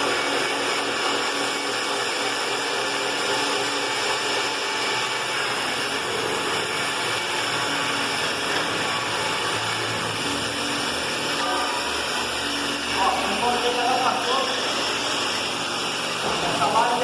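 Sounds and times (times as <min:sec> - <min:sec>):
electric drill boring concrete: 0:00.0 - 0:17.0.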